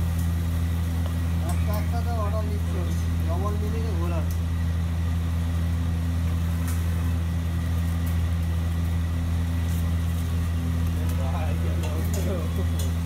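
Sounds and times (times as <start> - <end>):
low machine drone: 0.0 - 13.0.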